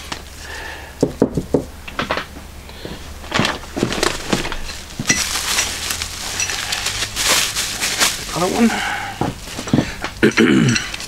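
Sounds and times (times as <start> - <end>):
sharp knocks and crackles: 1.0 - 8.4, 9.2 - 11.0.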